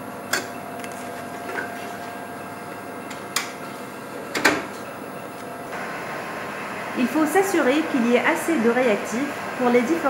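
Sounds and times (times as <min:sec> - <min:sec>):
analyzer machine hum: 0:00.0 - 0:10.0.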